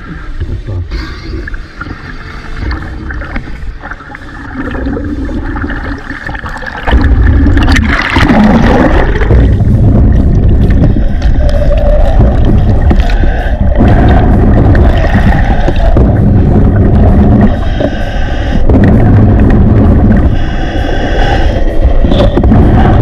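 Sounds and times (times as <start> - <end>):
underwater rumbling rush: 0.0 - 23.0.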